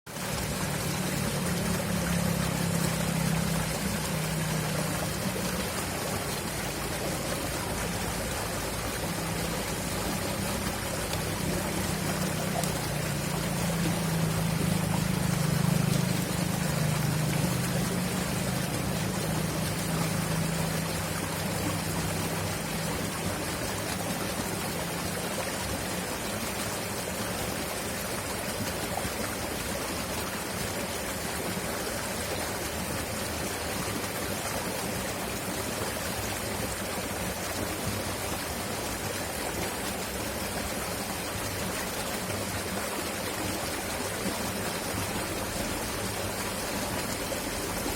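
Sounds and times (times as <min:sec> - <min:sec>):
river water rushing: 0:00.1 - 0:47.9.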